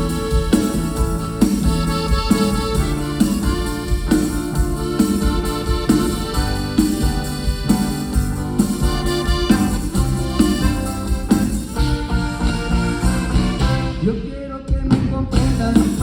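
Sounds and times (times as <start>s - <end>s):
band playing instrumental music: 0.0s - 16.0s.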